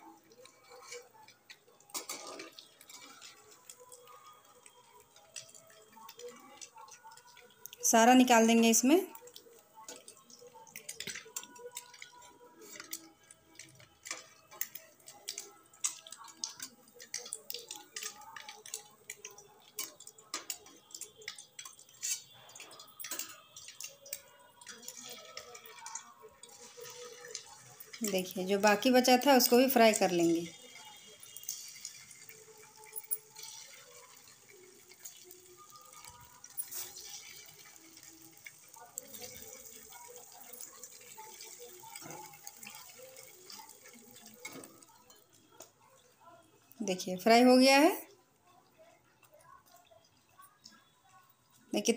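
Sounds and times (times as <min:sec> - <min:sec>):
hot oil crackling and popping: 0:00.0 - 0:51.9.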